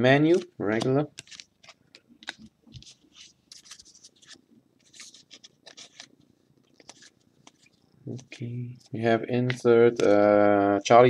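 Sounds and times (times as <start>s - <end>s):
cards flipped through by hand: 0.2s - 10.7s.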